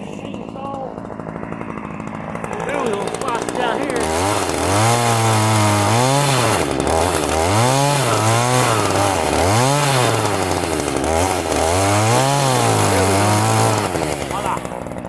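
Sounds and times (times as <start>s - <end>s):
chainsaw cutting stump: 0.0s - 15.0s.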